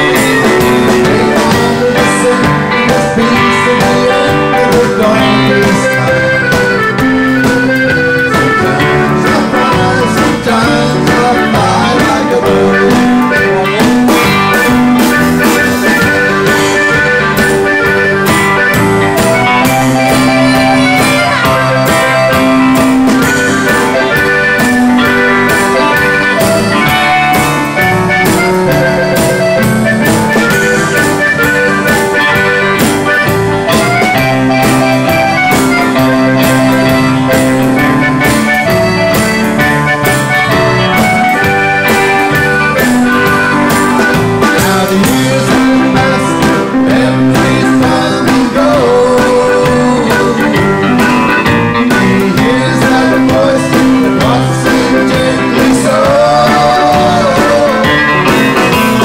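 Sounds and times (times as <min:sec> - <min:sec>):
bass guitar: 0:00.0 - 0:59.0
drum kit beat: 0:00.0 - 0:59.0
electric guitar: 0:00.0 - 0:59.0.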